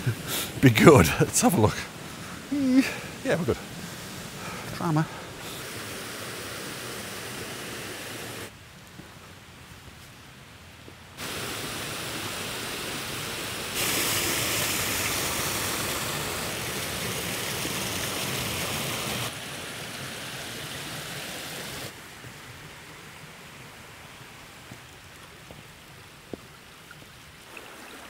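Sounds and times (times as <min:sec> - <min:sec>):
rushing water and small waterfalls: 0:00.0 - 0:28.0.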